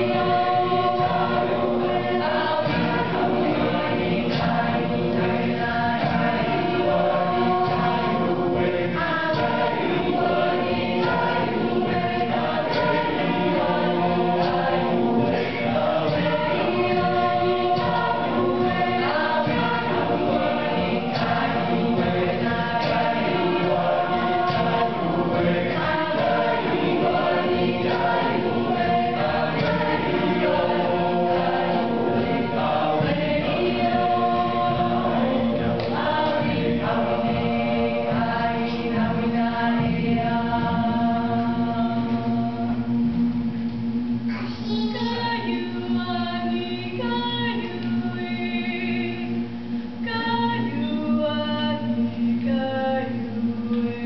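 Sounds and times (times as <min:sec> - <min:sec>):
mixed choir singing in harmony: 0:00.0 - 0:54.0.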